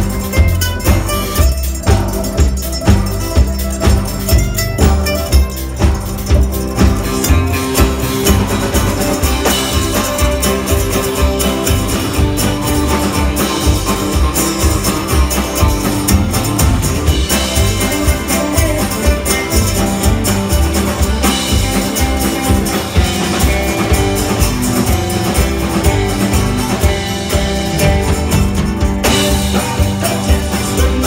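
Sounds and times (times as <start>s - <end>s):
bass and drum beat: 0.0s - 31.0s
guitar: 0.0s - 31.0s.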